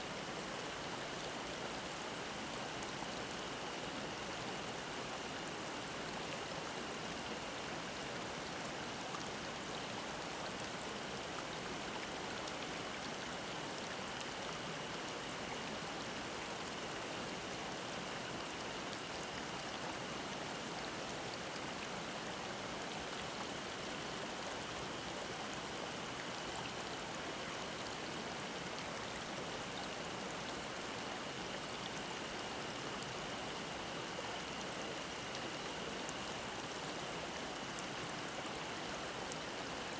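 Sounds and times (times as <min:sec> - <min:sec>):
stream babbling over rocks: 0:00.2 - 0:39.9.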